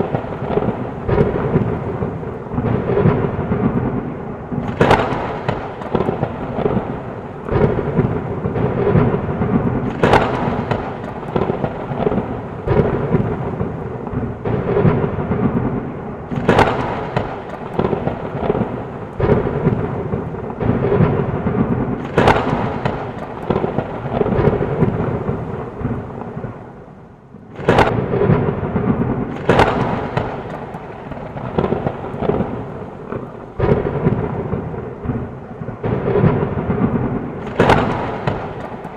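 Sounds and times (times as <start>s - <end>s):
sharp thunder cracks: 0.0s - 26.8s, 27.5s - 38.9s
heavy rain: 0.0s - 38.9s
low rumble of thunder: 0.0s - 38.9s.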